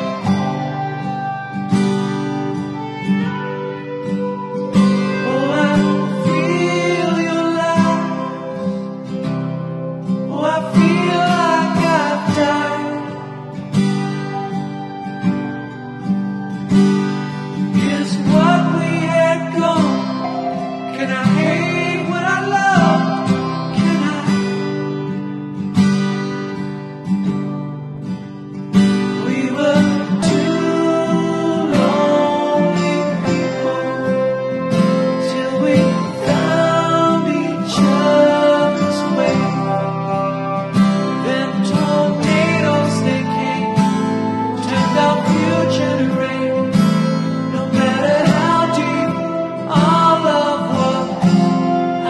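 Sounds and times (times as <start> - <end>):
person singing: 0.0 - 16.0, 17.1 - 25.2, 28.9 - 52.0
strummed acoustic guitar: 0.0 - 52.0.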